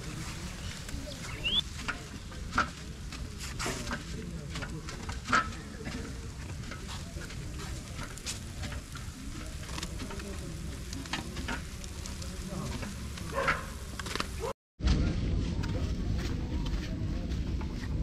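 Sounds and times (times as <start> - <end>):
syrup bubbling and sizzling: 0.0 - 14.5.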